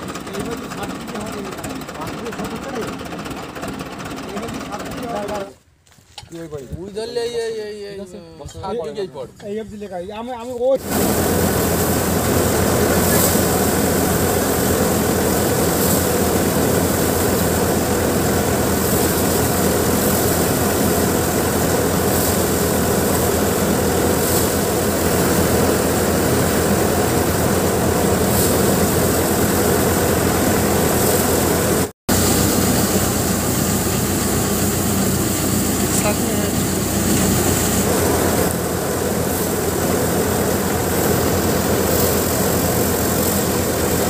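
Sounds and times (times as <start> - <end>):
thresher machine running: 0.0 - 5.6, 10.8 - 44.0.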